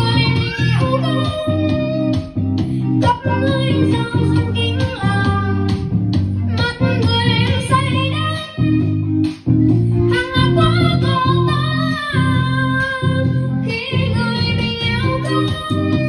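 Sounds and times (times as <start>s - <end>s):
boy singing into microphone: 0.0s - 2.4s, 3.0s - 5.8s, 6.5s - 8.9s, 10.1s - 16.0s
guitar accompaniment: 0.0s - 16.0s.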